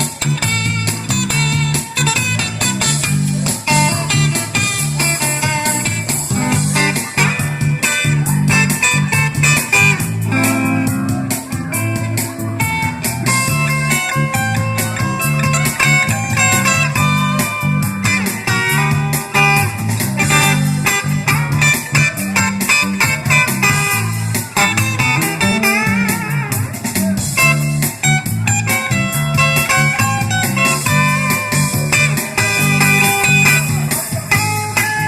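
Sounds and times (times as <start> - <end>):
bass line: 0.0 - 35.0
guitar music: 0.0 - 35.0.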